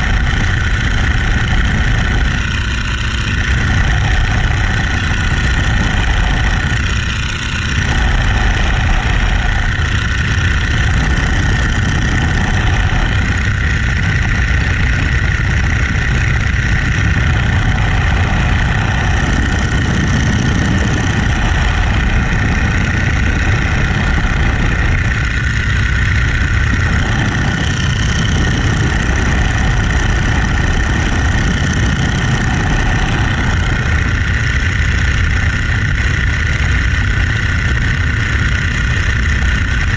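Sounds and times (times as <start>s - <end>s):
biplane radial engine in flight: 0.0s - 39.9s
rushing wind: 0.0s - 39.9s.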